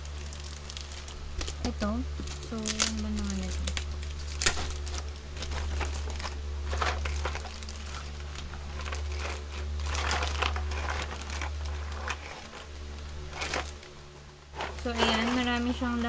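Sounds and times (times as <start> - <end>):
plastic bag crinkling: 0.0 - 16.0
steady low hum: 0.0 - 16.0.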